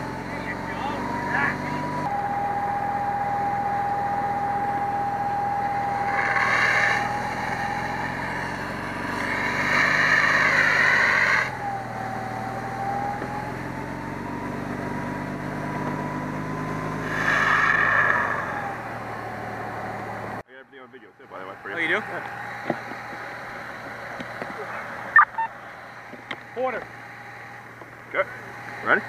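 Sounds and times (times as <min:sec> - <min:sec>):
pump whine: 0:00.0 - 0:20.4, 0:21.2 - 0:29.0
fire engine pump running: 0:00.0 - 0:29.0.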